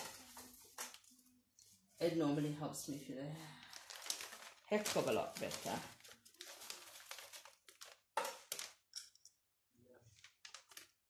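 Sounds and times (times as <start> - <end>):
plastic bag crinkling and rustling: 0.0 - 9.0, 10.0 - 11.0.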